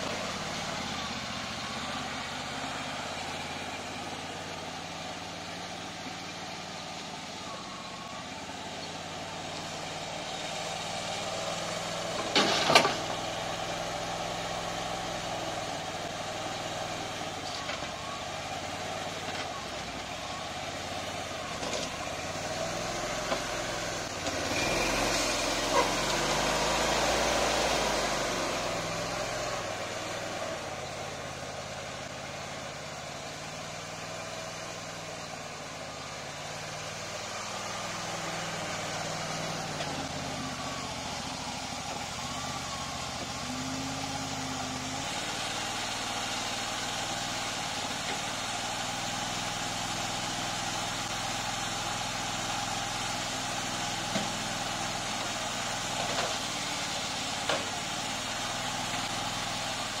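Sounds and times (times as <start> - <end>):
loader engine running: 0.0 - 60.0.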